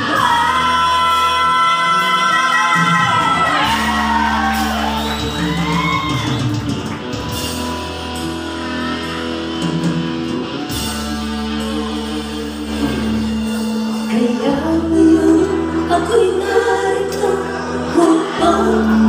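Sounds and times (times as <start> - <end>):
bass notes: 0.0 - 19.0
electric guitar lead: 0.0 - 19.0.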